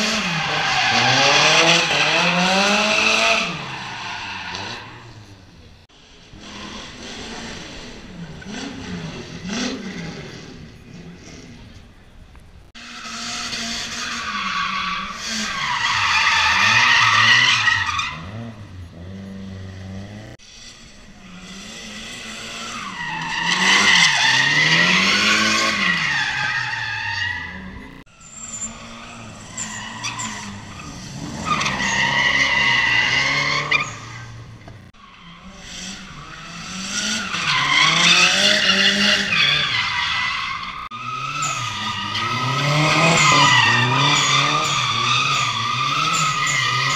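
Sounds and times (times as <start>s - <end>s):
car engine revving: 0.0s - 12.0s, 12.7s - 46.9s.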